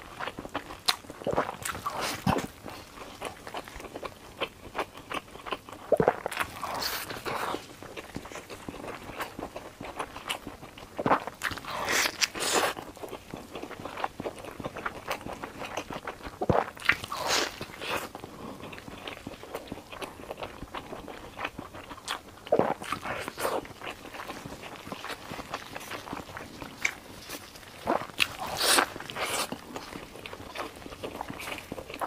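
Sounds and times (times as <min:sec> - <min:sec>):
chewing: 0:00.0 - 0:32.0.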